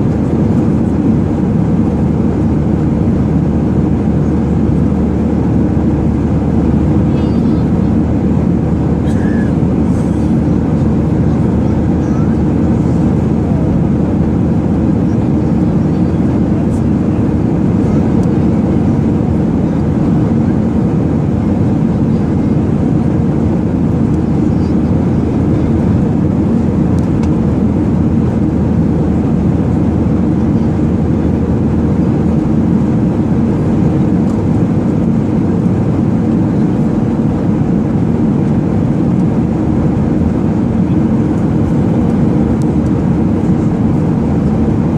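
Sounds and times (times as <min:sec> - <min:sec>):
airplane cabin rumble: 0:00.0 - 0:44.9.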